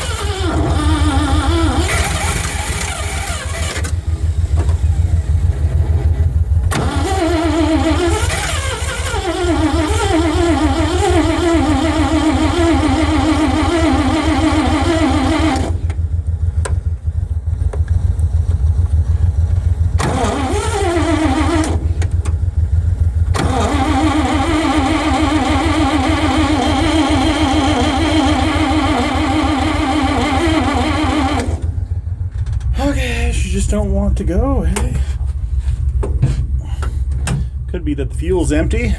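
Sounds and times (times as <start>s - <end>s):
starter motor cranking: 0.0s - 19.0s, 19.6s - 32.8s
engine running steadily: 0.0s - 38.9s.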